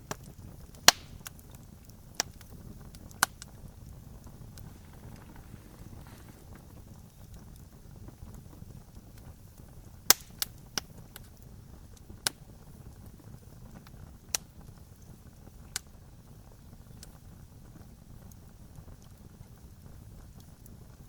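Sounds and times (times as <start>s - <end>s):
burning wood popping: 0.0s - 21.0s
campfire burning rumble: 0.0s - 21.0s.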